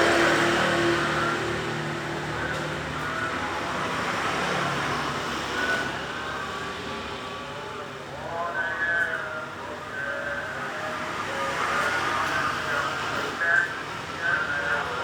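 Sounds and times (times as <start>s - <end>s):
steady rushing traffic noise: 0.0s - 15.0s.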